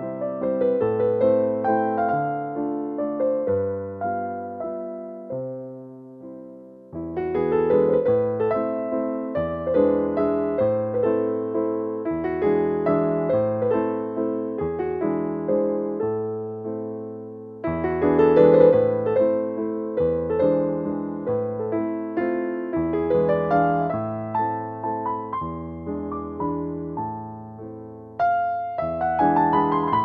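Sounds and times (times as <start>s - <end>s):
gentle piano piece: 0.0s - 30.0s.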